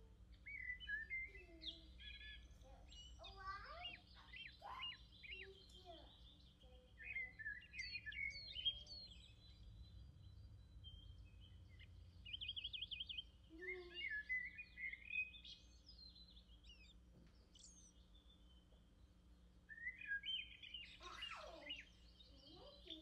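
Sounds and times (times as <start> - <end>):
low steady hum: 0.0 - 23.0
small bird chirping: 0.0 - 23.0.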